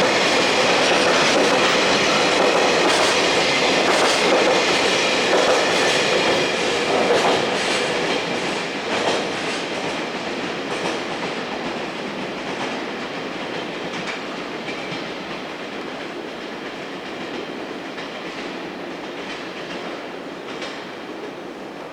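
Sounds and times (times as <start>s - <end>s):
freight train rumbling: 0.0s - 21.9s.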